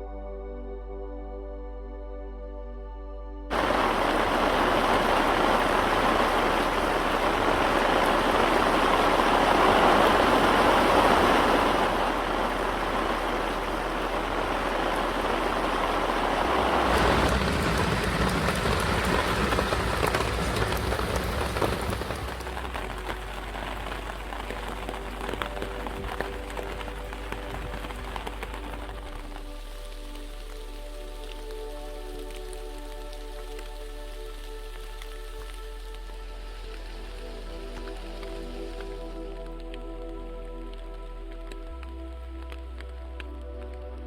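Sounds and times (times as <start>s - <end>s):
deep rumble: 1.6s - 44.0s
rain falling: 3.5s - 44.0s.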